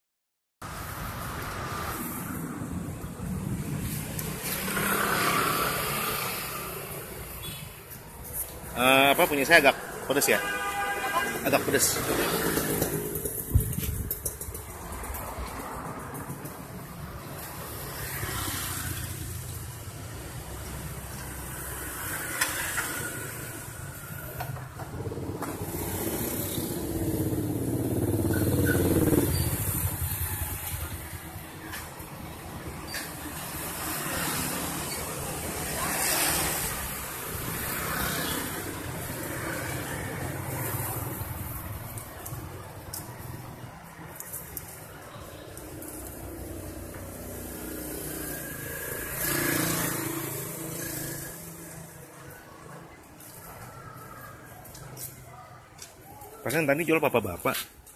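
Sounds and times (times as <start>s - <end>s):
motor vehicle passing by: 0.7s - 7.4s, 11.4s - 55.2s.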